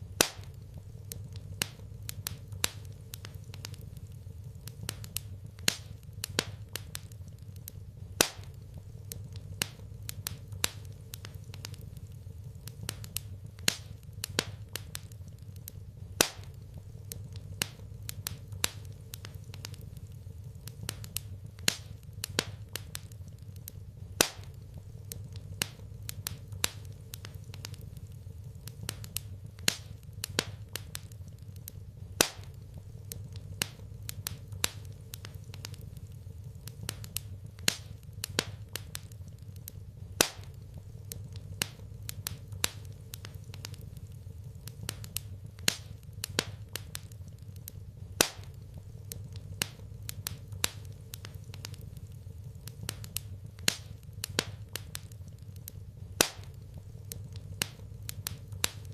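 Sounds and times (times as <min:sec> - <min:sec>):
steady low hum: 0:00.0 - 0:58.9
wood fire crackling: 0:00.0 - 0:58.9.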